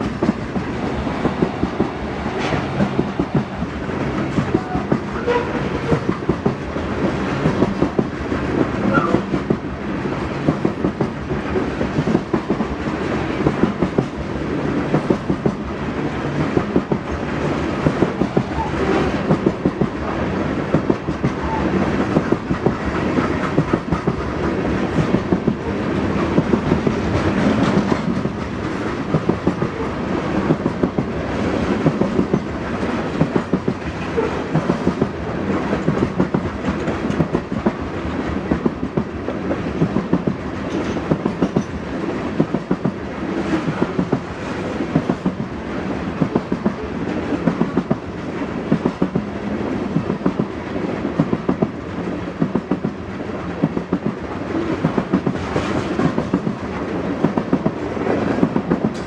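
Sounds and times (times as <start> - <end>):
steel wheels rumbling on rail: 0.0 - 59.0
wheels clacking over rail joints: 0.0 - 59.0.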